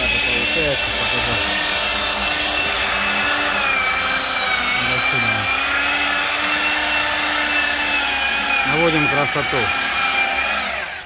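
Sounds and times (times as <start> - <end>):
electric polisher whining: 0.0 - 11.0.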